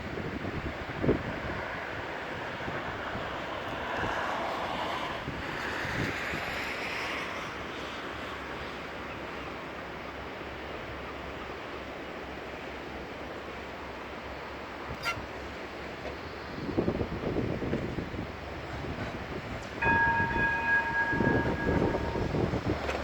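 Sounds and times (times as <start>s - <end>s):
tram running rushing noise: 0.0s - 23.0s.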